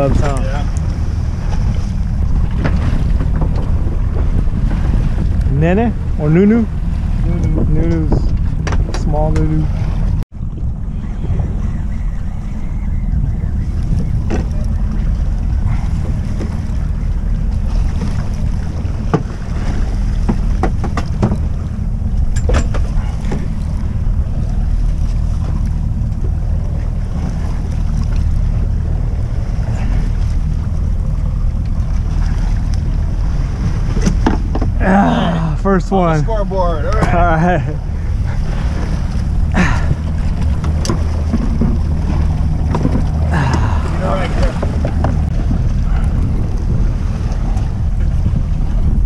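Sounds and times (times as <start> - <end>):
wind noise on microphone: 0.0 - 35.4, 36.6 - 49.0
outboard motors rumbling: 0.0 - 49.0.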